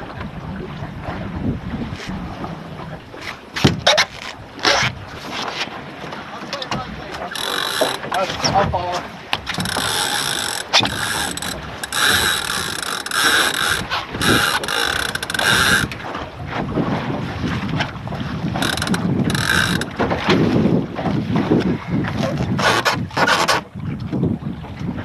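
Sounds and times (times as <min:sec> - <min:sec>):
water rushing along hull: 0:00.0 - 0:25.0
wind on microphone: 0:00.0 - 0:25.0.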